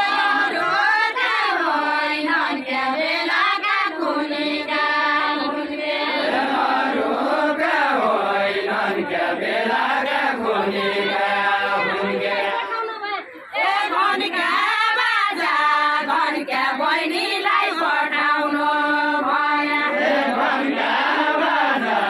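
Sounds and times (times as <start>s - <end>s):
group singing folk song: 0.0s - 22.0s.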